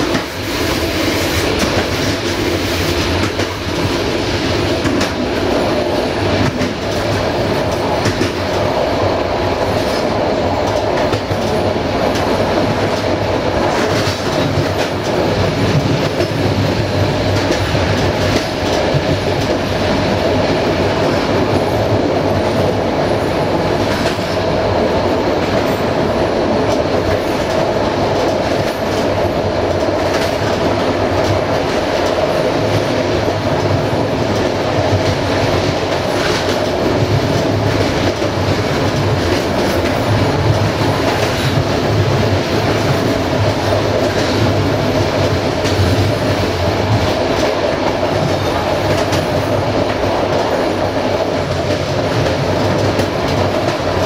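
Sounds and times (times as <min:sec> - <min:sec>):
train wheels rumbling on rail: 0:00.0 - 0:54.0
clacks over rail joints: 0:01.4 - 0:04.1, 0:04.8 - 0:05.5, 0:06.3 - 0:08.7, 0:09.7 - 0:19.8, 0:26.6 - 0:54.0.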